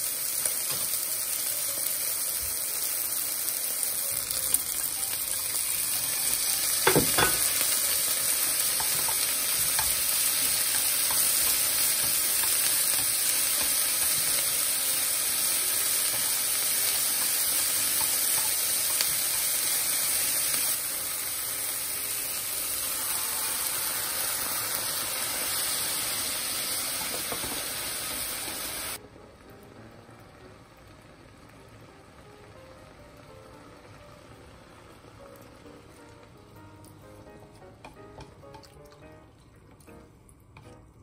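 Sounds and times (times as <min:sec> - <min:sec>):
chicken and onion sizzling: 0:00.0 - 0:41.0.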